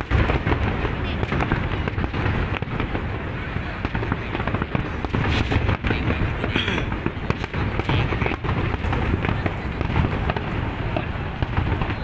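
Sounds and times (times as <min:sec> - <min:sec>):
firework crackle: 0:00.0 - 0:12.0.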